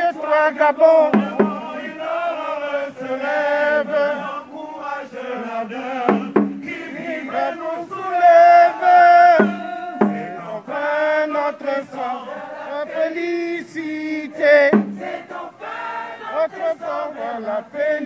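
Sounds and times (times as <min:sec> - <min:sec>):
man singing into a microphone: 0:00.0 - 0:15.0, 0:16.3 - 0:18.0.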